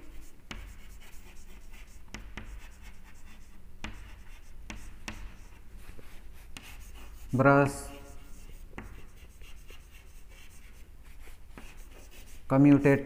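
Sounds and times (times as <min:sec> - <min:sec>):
chalk scratching on chalkboard: 0:00.0 - 0:13.0
chalk tapping on board: 0:00.0 - 0:13.0.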